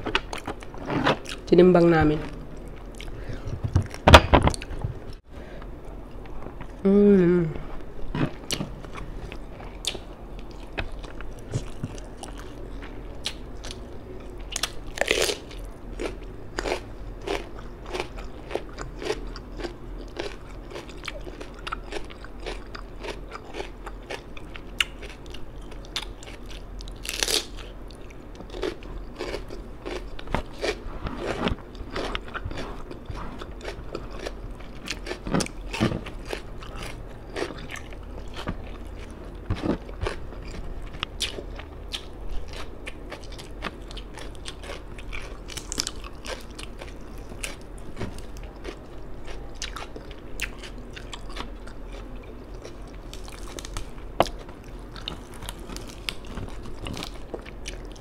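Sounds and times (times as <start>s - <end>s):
chewing and crunching food: 0.0s - 1.5s, 8.1s - 58.0s.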